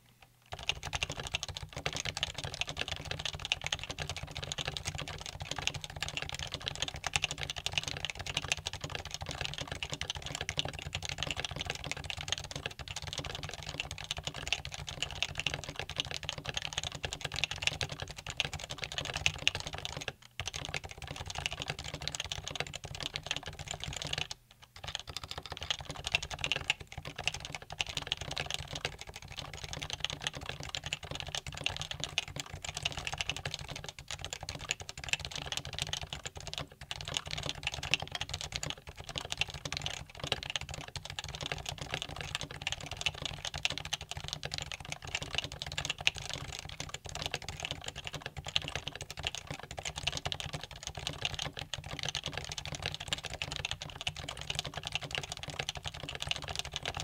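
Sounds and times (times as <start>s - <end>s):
fast keyboard typing: 0.5s - 57.0s.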